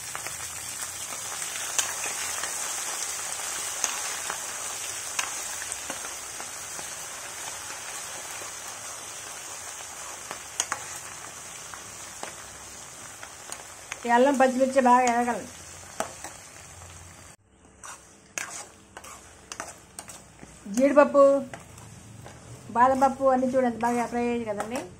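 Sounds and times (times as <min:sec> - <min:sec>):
oil sizzling with sharp pops: 0:00.0 - 0:24.9.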